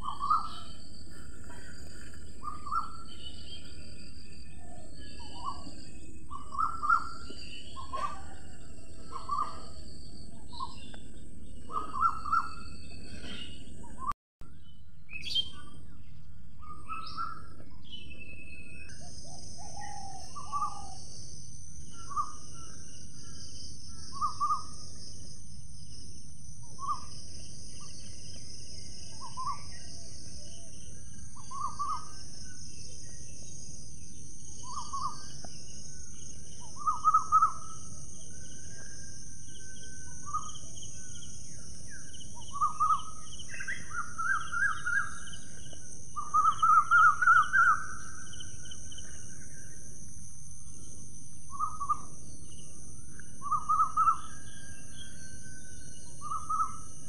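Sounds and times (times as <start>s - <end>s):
bird calling: 0.0s - 14.1s, 16.6s - 25.1s, 26.6s - 49.8s, 50.8s - 57.0s.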